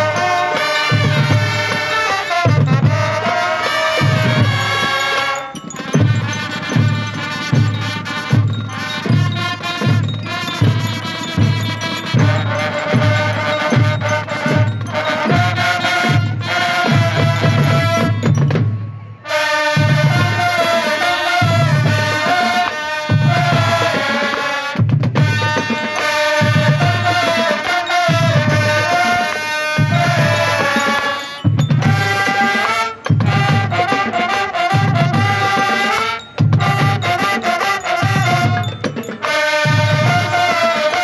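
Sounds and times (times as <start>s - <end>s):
bass and snare drums: 0.0s - 5.1s, 5.8s - 19.0s, 19.6s - 41.0s
brass melody: 0.0s - 41.0s.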